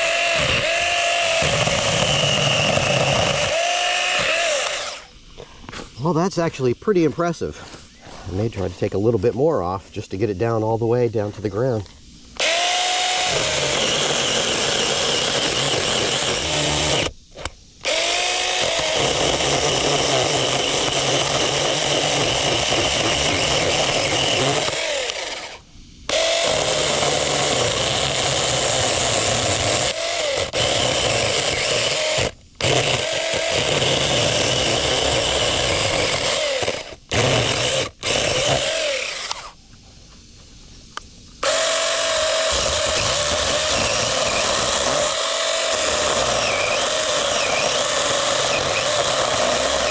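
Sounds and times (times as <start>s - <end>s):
electric chainsaw cutting wood: 0.0s - 5.1s, 12.4s - 17.2s, 17.8s - 39.6s, 41.4s - 49.9s.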